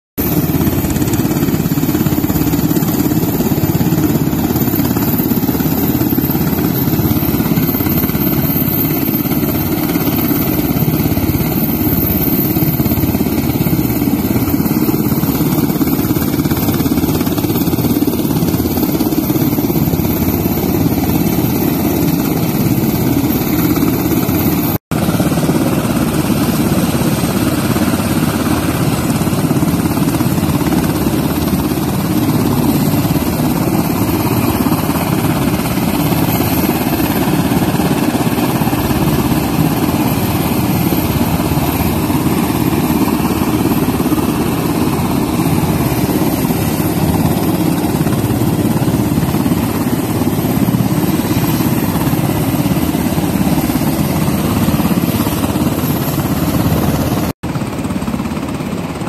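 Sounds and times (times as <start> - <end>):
helicopter rotors and engines droning: 0.2 - 59.0.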